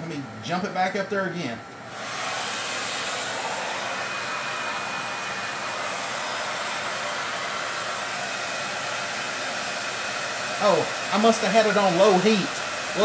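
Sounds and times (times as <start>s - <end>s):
hair dryer blowing air: 1.7s - 13.0s.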